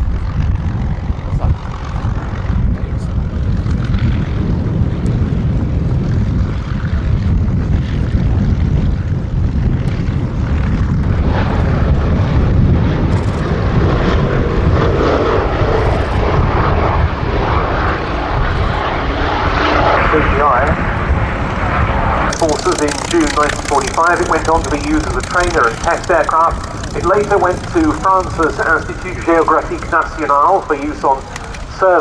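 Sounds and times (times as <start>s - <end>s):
propeller engines droning: 0.0s - 32.0s.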